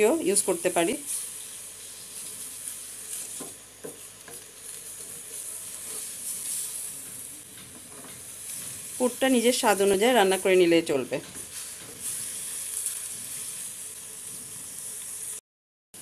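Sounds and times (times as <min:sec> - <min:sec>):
food sizzling in oil: 0:00.0 - 0:15.4
wooden spatula stroking pan: 0:00.7 - 0:15.1.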